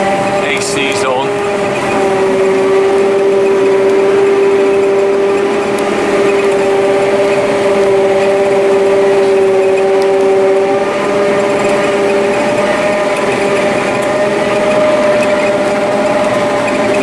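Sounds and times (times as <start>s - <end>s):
harvester machine drone: 0.0s - 17.0s
steady machine whining tones: 0.0s - 17.0s.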